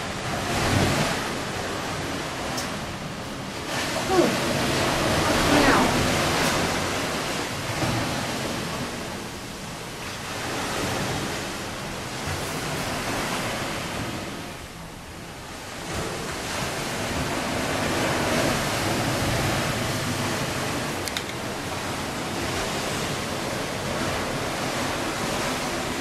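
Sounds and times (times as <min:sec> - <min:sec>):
ocean surf breaking ashore: 0:00.0 - 0:26.0.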